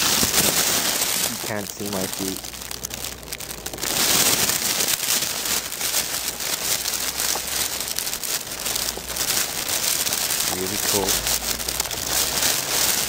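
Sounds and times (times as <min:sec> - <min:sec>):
footsteps in snow: 0:00.0 - 0:13.0
frozen jeans rasping and crinkling: 0:00.0 - 0:13.0.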